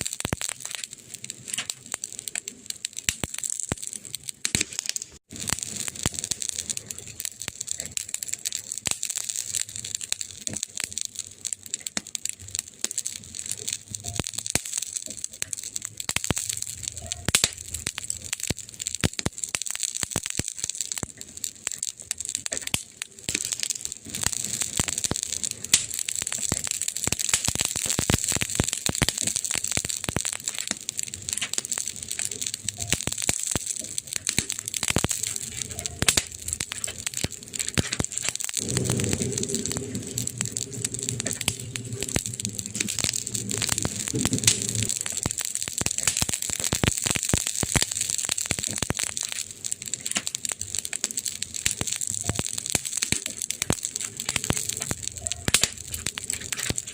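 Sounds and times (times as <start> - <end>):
burning wood crackling: 0.0 - 56.9
fire hissing: 0.0 - 56.9.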